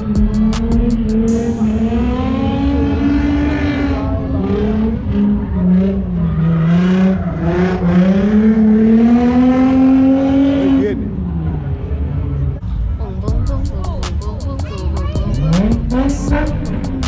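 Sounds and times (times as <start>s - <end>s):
car engine revving: 0.0s - 12.4s, 13.7s - 17.0s.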